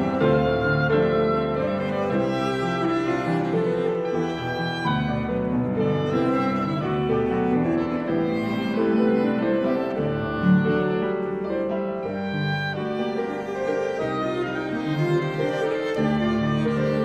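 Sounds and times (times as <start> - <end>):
bowed cello: 0.0 - 17.0
grand piano: 0.0 - 17.0
oboe: 0.0 - 17.0.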